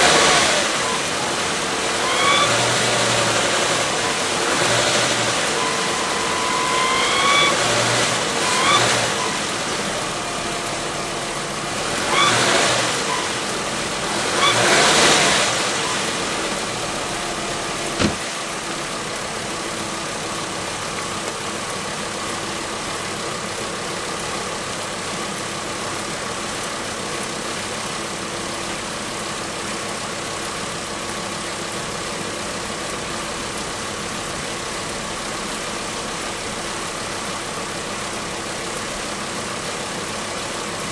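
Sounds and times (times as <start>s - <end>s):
car engine humming: 0.0s - 40.9s.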